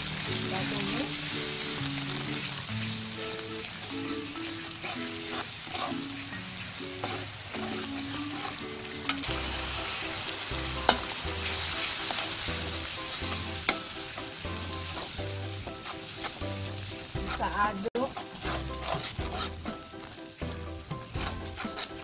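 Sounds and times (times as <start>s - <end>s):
shrimp sizzling in oil: 0.0s - 22.0s.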